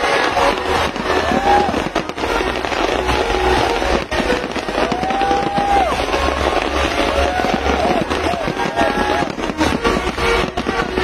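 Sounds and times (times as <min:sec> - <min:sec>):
fireworks crackling: 0:00.0 - 0:11.0
fireworks low rumble: 0:00.0 - 0:11.0
fireworks whistling: 0:00.0 - 0:11.0.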